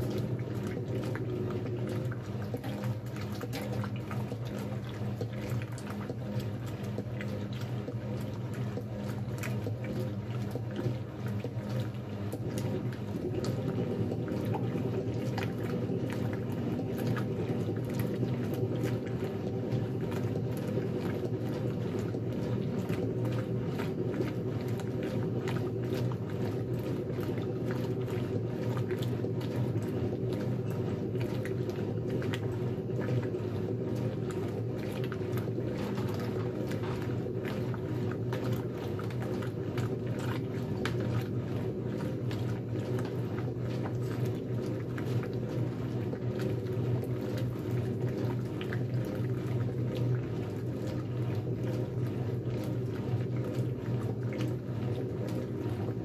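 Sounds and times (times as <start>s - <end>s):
washing machine mechanical hum: 0.0s - 56.0s
water sloshing and splashing: 0.0s - 56.0s.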